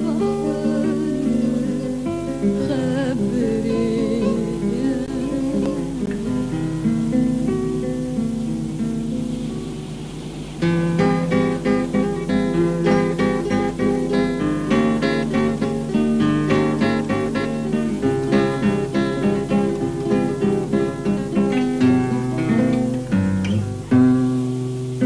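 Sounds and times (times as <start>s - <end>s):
plucked string instrument: 0.0s - 25.0s.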